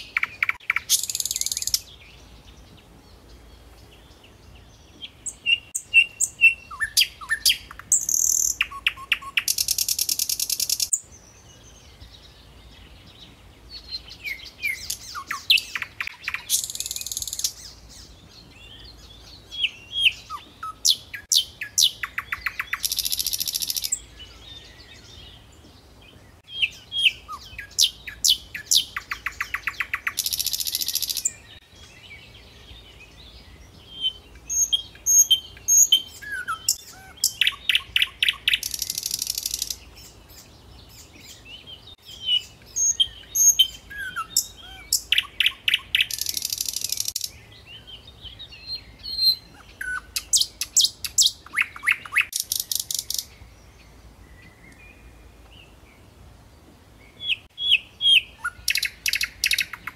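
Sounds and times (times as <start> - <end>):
birds chirping and trilling: 0.0 - 56.2, 56.9 - 59.9.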